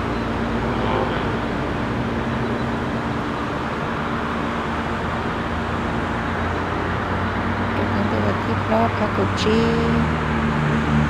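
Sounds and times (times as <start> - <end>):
distant road traffic hum: 0.0 - 11.0.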